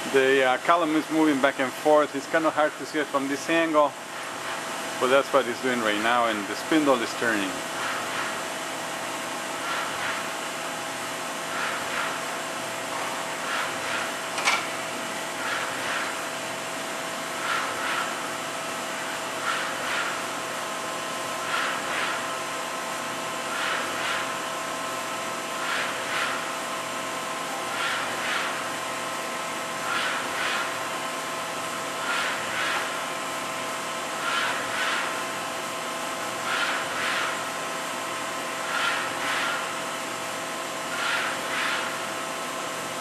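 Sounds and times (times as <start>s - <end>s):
machine spindle whine: 0.0s - 43.0s.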